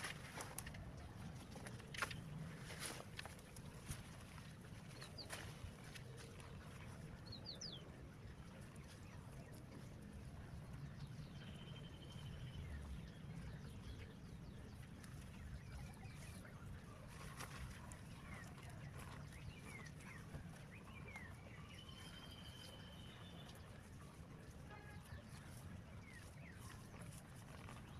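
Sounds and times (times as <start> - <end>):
faint low rumble: 0.0 - 27.9
small birds chirping: 0.0 - 27.9.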